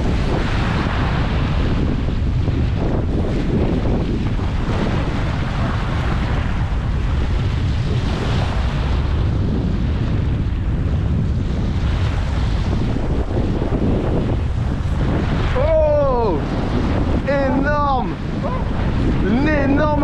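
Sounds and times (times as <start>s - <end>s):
surf washing against rocks: 0.0s - 20.0s
wind buffeting microphone: 0.0s - 20.0s.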